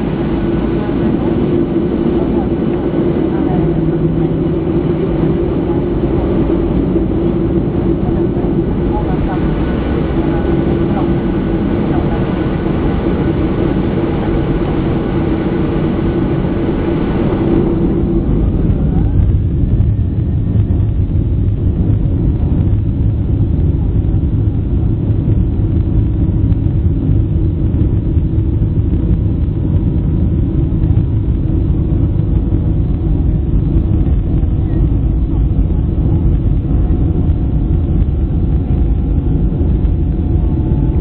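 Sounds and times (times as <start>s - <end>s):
airplane cabin engine rumble: 0.0s - 41.0s.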